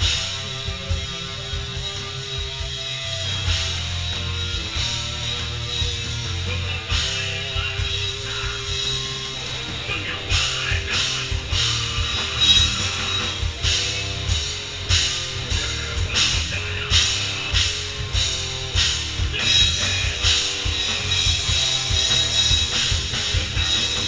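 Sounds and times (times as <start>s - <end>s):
bass guitar: 0.0s - 24.0s
drum kit beat: 0.0s - 24.0s
electric guitar: 0.0s - 24.0s.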